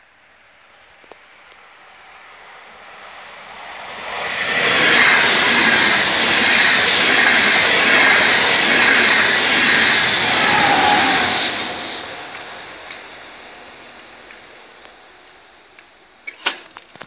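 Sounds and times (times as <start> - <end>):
passenger train rushing past: 0.6 - 16.4.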